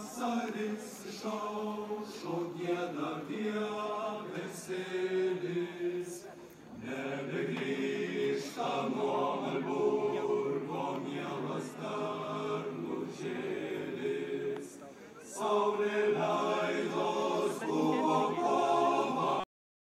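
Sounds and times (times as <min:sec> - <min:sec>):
mixed choir singing: 0:00.0 - 0:19.5.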